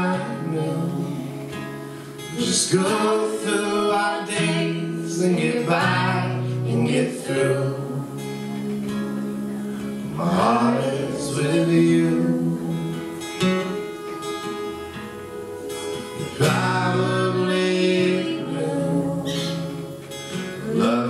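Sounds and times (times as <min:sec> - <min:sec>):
lap steel guitar: 0:00.0 - 0:21.0
person singing: 0:00.0 - 0:21.0
strummed guitar chords: 0:00.0 - 0:21.0.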